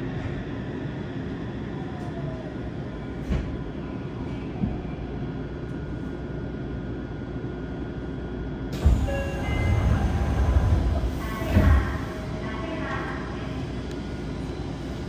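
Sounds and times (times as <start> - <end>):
subway car rumbling: 0.0 - 15.0.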